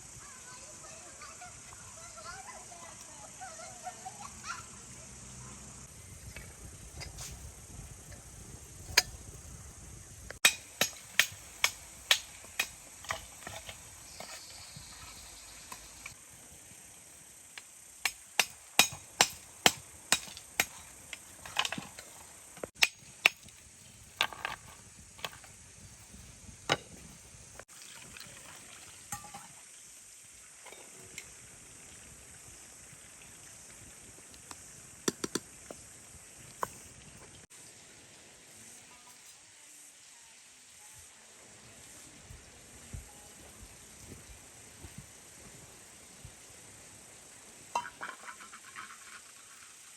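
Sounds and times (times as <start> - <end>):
faint steady hiss: 0.0 - 49.9.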